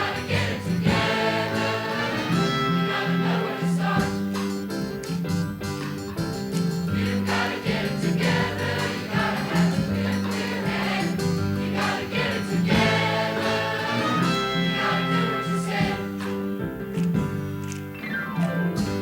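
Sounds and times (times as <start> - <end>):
choir singing gospel music: 0.0 - 5.2, 6.8 - 16.8.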